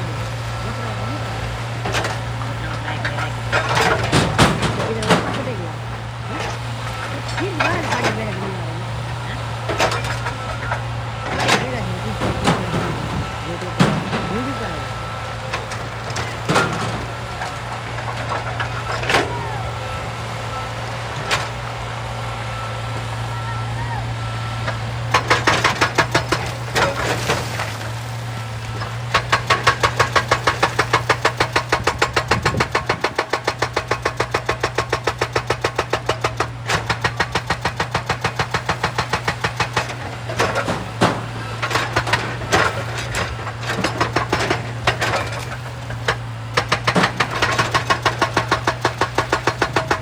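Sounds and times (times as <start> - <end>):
diesel engine running: 0.0 - 50.0
hydraulic rock breaker hammering: 0.0 - 50.0.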